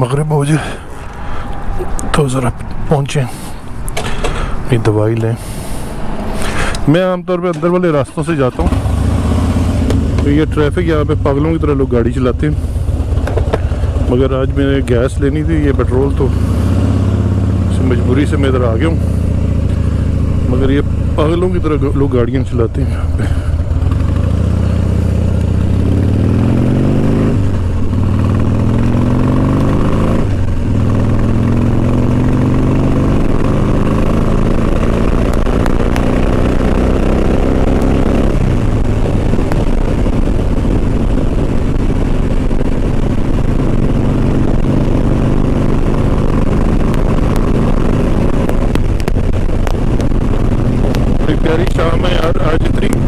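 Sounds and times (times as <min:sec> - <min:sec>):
motorcycle engine accelerating: 0:05.6 - 0:53.0.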